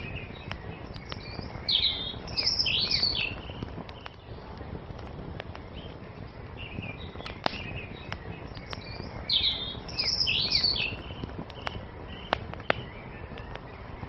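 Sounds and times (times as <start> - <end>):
songbird singing: 0.0 - 14.0
wood fire crackling: 0.0 - 14.0.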